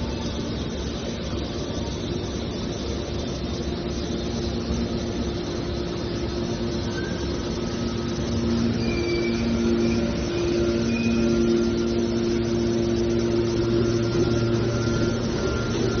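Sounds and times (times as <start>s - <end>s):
baler press machine hum: 0.0s - 16.0s.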